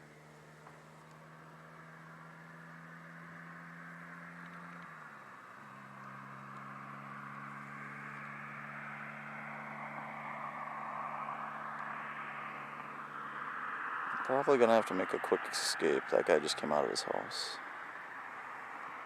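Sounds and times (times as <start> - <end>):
distant car engine at full throttle: 0.0 - 19.0.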